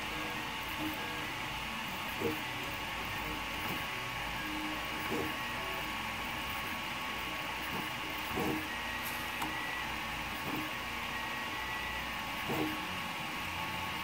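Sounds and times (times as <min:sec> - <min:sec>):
cooling fans whirring: 0:00.0 - 0:14.0
stepper motors humming tones: 0:00.0 - 0:14.0.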